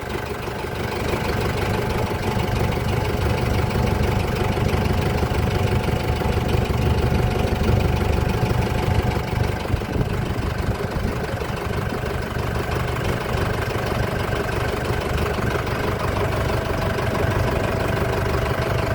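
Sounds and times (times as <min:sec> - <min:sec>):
motorboat engine droning: 0:00.0 - 0:18.9.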